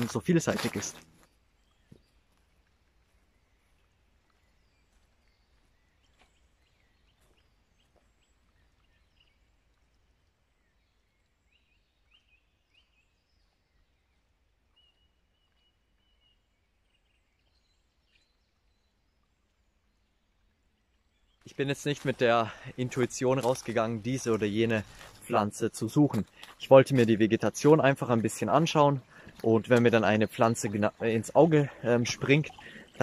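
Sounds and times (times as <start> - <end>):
forest ambience: 0.0 - 33.0.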